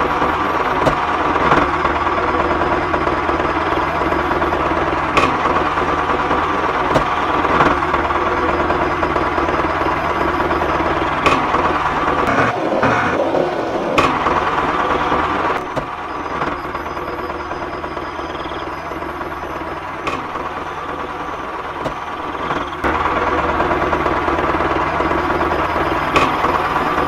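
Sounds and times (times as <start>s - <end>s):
small engine knocking: 0.0s - 27.0s.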